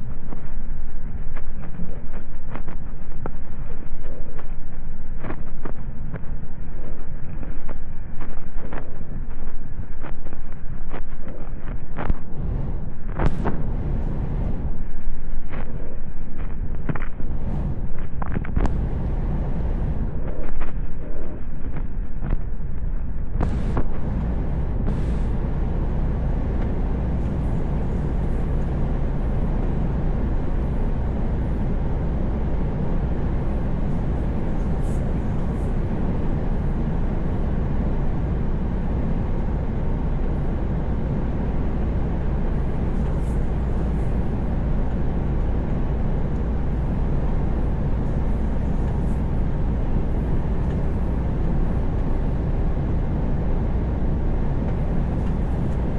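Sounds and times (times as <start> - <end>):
truck engine and road noise: 10.9 - 55.9.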